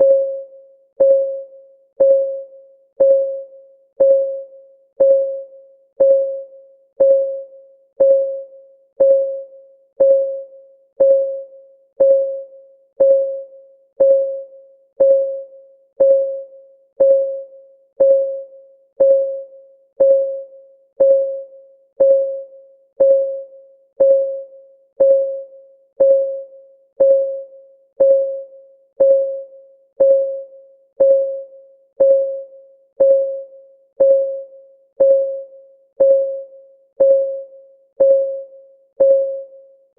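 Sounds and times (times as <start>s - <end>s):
electronic timer ticking: 1.0s - 39.5s.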